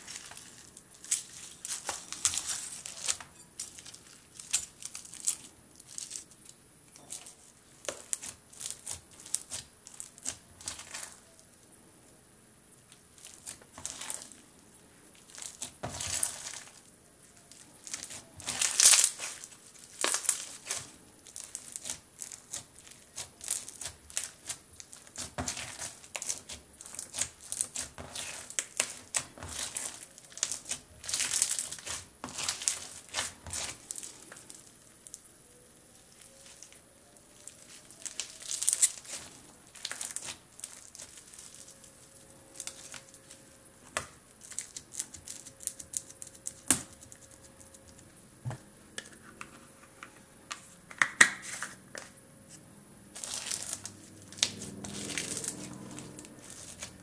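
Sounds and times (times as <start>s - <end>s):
crunchy slime crackling and popping: 0.0s - 12.2s, 12.8s - 48.1s, 53.1s - 57.0s.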